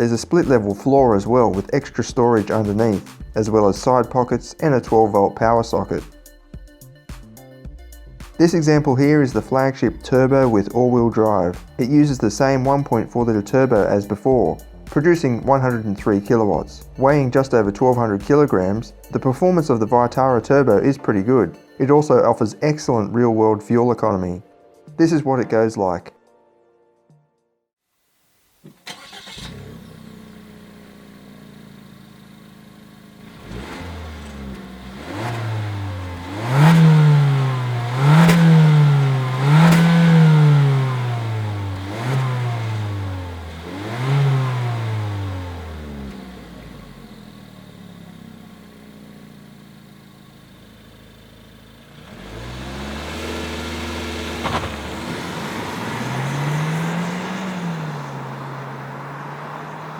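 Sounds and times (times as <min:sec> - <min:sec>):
car engine revving: 0:00.0 - 0:06.1, 0:08.2 - 0:21.0, 0:28.8 - 0:59.9.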